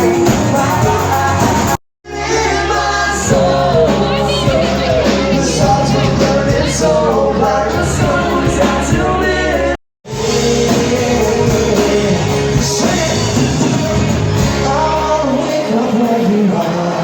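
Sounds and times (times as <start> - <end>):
rock-pop song with singing: 0.0 - 17.0.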